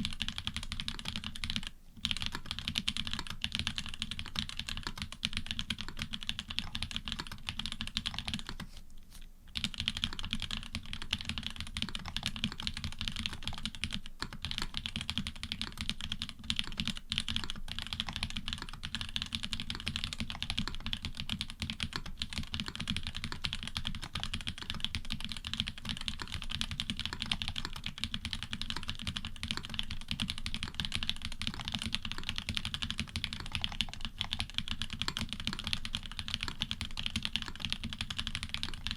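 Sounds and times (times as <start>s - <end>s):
rapid mechanical keyboard typing: 0.0s - 8.7s, 9.5s - 38.9s.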